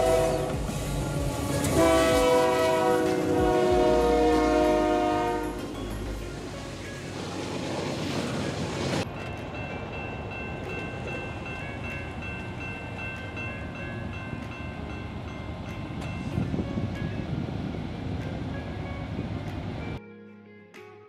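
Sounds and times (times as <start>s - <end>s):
diesel locomotives rumbling: 0.0s - 20.0s
freight train cars rolling: 0.0s - 20.0s.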